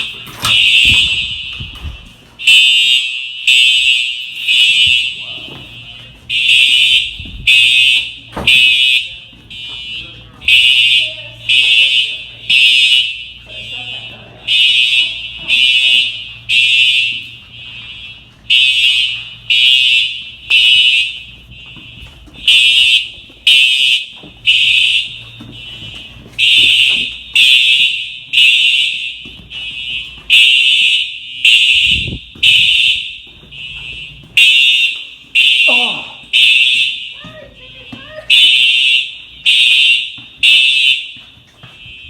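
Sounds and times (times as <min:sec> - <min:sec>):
fire alarm beeps: 0:00.0 - 0:42.0.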